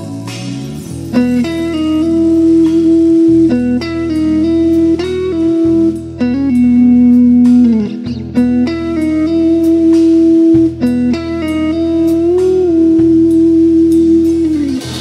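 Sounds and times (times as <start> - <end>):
blues guitar playing: 0.0 - 15.0
steady low bass: 0.0 - 15.0.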